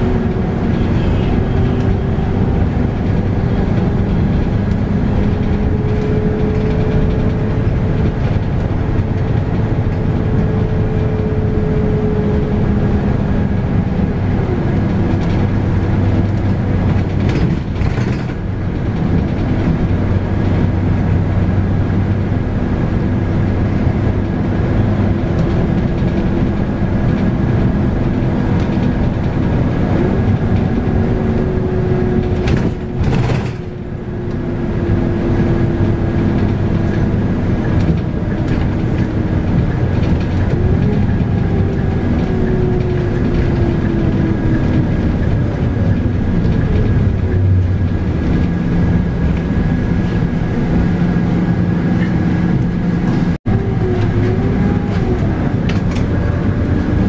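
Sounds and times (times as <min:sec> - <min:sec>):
bus diesel engine and gearbox whine: 0:00.0 - 0:57.0.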